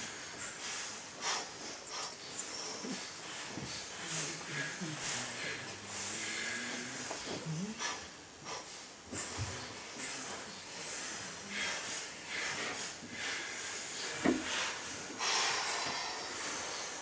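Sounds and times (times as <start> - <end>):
person hissing and puffing: 2.9 - 17.0.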